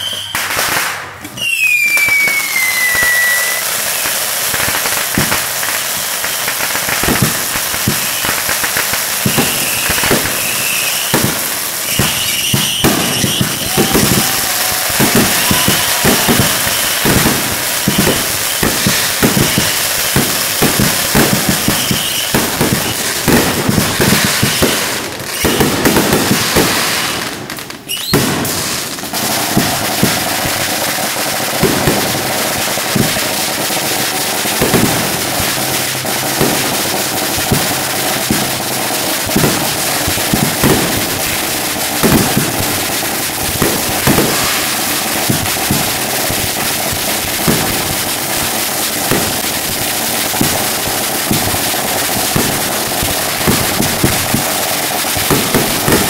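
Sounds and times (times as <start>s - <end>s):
fireworks bangs: 0.0s - 56.0s
fireworks hissing and crackle: 0.0s - 56.0s.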